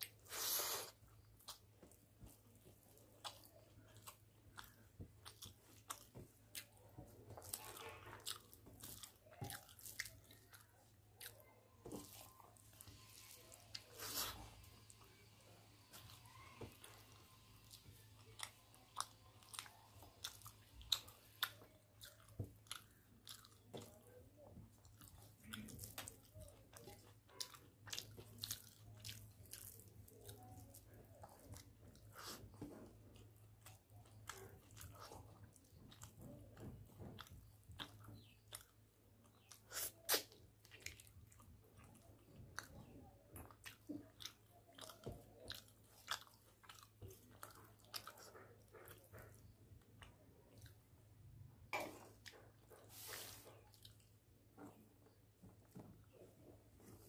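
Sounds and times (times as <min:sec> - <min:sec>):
man chewing with wet smacks: 0:00.0 - 0:57.0.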